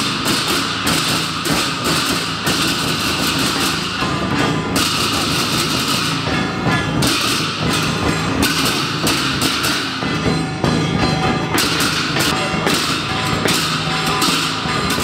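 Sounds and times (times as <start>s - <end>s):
hand cymbals clashing: 0.0s - 15.0s
large drum beating: 0.0s - 15.0s.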